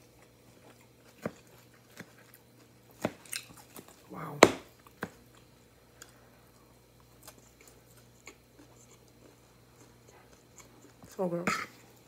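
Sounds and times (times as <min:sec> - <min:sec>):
faint chewing of salad: 0:00.0 - 0:04.1, 0:04.8 - 0:12.0.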